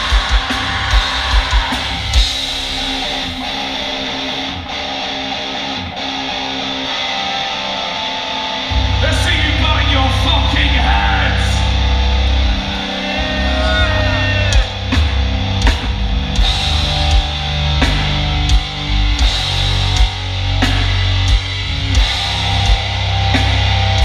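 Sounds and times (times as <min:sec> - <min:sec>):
electric guitar: 0:00.0 - 0:24.0
live heavy metal band: 0:00.0 - 0:24.0.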